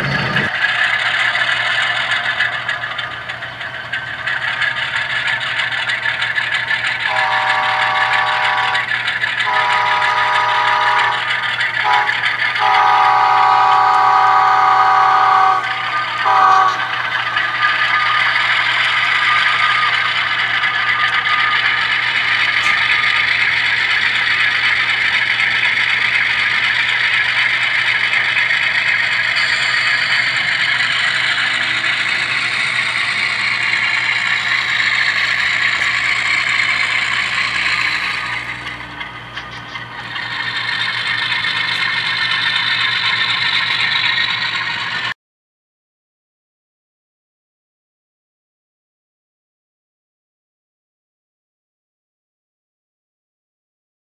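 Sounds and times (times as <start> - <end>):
diesel engine running: 0.0 - 45.1
train rolling on track: 0.0 - 45.2.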